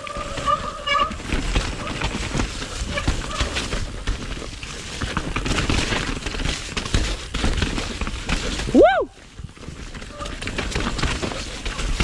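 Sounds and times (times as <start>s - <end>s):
bike rattling: 0.0s - 12.0s
bike tyres on dirt trail: 0.0s - 12.0s.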